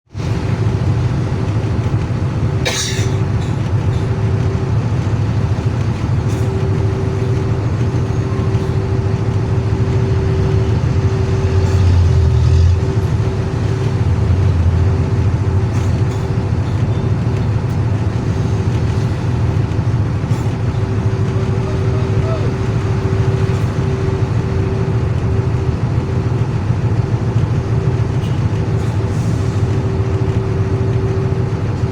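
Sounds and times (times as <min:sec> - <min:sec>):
diesel truck engine rumbling: 0:00.0 - 0:31.9.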